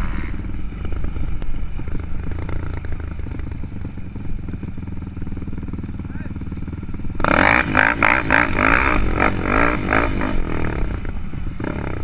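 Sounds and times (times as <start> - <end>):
quad engine running: 0.0 - 12.0.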